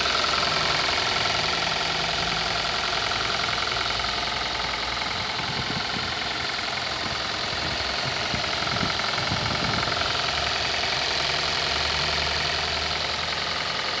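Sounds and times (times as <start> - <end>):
car engine idling with knock: 0.0 - 14.0.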